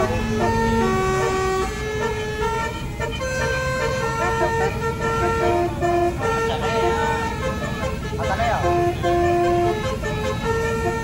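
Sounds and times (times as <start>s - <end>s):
bus rumbling on the road: 0.0s - 11.0s
multi-tone bus horn tune: 0.0s - 11.0s.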